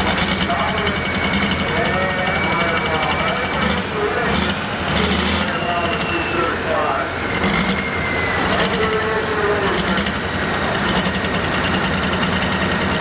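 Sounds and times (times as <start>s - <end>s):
diesel tractor engine idling: 0.0s - 13.0s.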